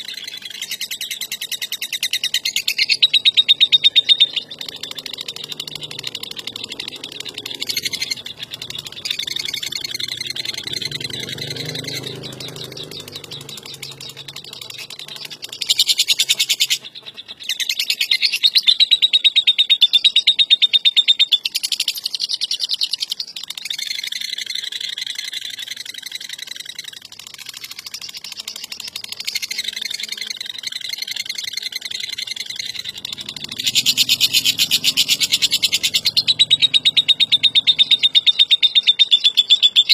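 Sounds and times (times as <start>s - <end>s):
lovebird rattling trill: 0.0s - 18.6s, 21.4s - 39.9s.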